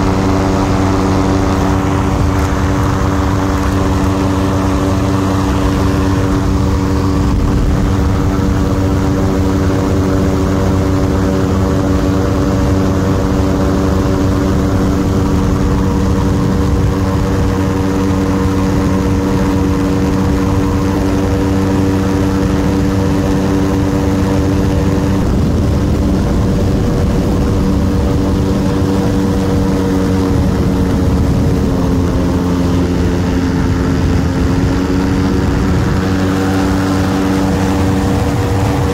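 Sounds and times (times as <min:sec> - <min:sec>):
ultralight aircraft engine and propeller: 0:00.0 - 0:38.9.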